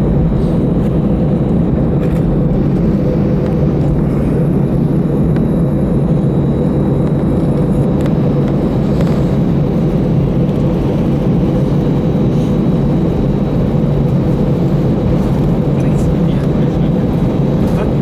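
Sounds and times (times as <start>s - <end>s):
aircraft cabin engine rumble: 0.0s - 18.0s
steady cabin hum: 0.0s - 18.0s.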